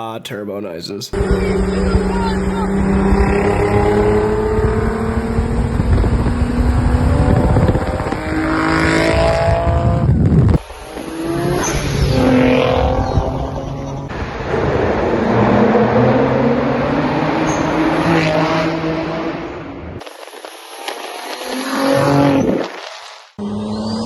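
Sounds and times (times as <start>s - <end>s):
car engine accelerating hard: 1.2s - 24.0s.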